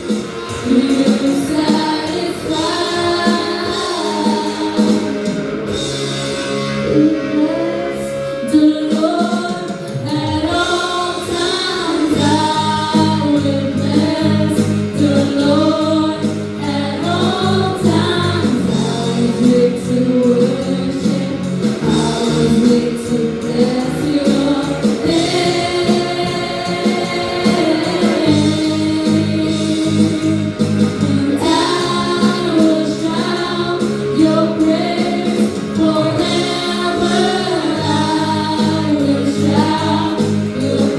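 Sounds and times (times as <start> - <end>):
group singing gospel song: 0.0 - 6.2, 6.8 - 40.9
band accompaniment with steady beat: 0.0 - 40.9.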